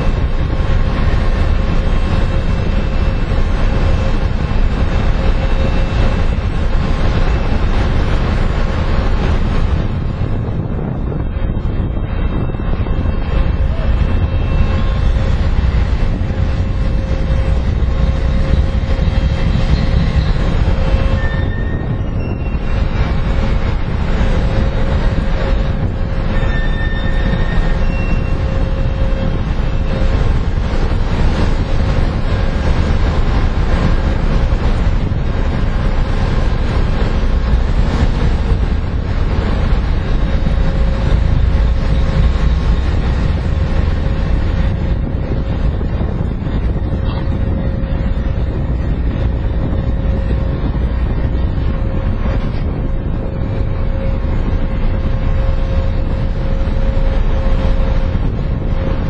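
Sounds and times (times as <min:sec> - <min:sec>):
ship machinery humming: 0:00.0 - 0:59.0
wind buffeting microphone: 0:00.0 - 0:59.0.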